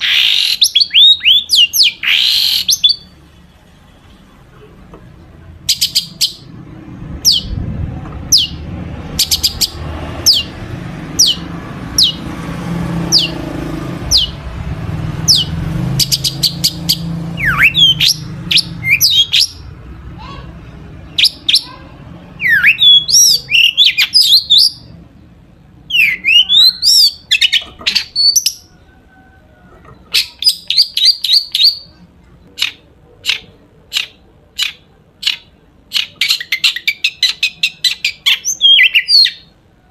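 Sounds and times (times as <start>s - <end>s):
shrike singing: 0.0s - 3.2s, 5.5s - 6.6s, 8.2s - 19.8s, 21.0s - 24.9s, 25.8s - 32.0s, 32.6s - 39.6s.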